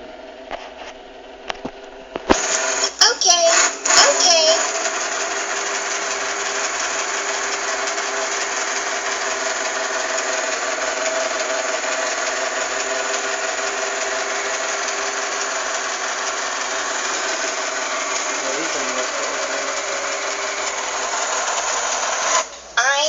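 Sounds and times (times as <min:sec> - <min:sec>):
robot vacuum cleaner whirring: 0:01.6 - 0:22.6.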